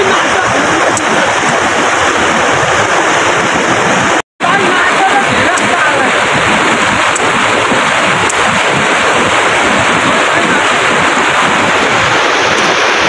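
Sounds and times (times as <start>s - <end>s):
loud steady rushing noise: 0.0s - 13.0s.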